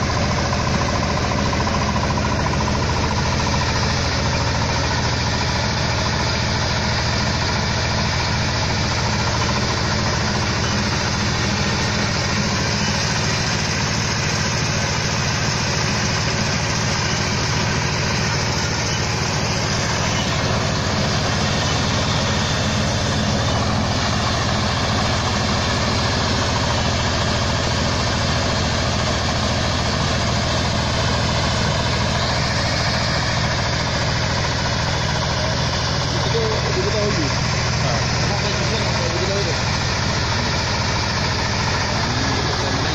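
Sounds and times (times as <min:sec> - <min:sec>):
combine harvester engine running: 0:00.0 - 0:42.9.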